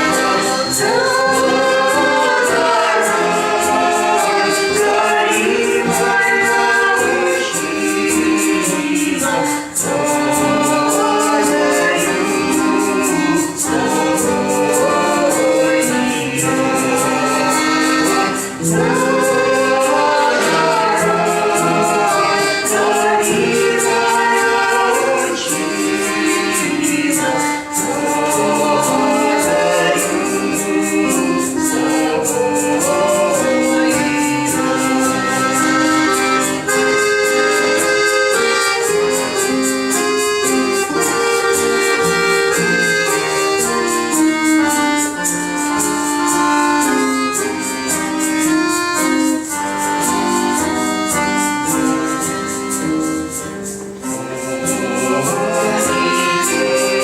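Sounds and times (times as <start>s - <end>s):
instrumental accompaniment: 0.0s - 57.0s
vocal group singing folk song: 0.0s - 57.0s.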